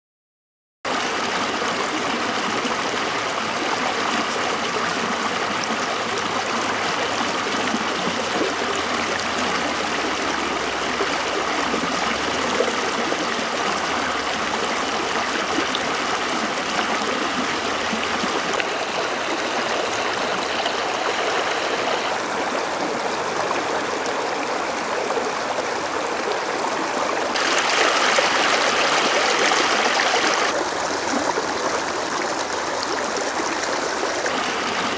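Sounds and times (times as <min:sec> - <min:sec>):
river water over rocks: 0:00.9 - 0:34.9.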